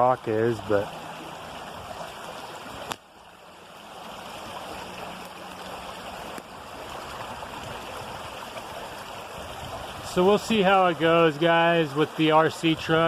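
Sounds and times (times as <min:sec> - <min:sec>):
water flowing in creek: 0:00.0 - 0:13.0.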